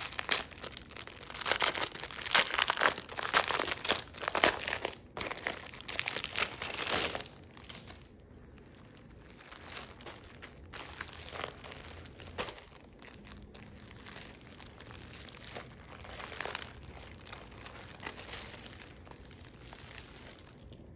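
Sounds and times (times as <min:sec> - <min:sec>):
plastic packaging crinkling: 0:00.0 - 0:20.9.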